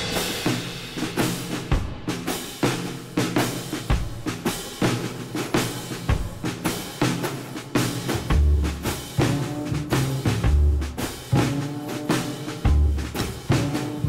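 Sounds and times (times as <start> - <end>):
music with drum-kit beat: 0.0 - 14.0.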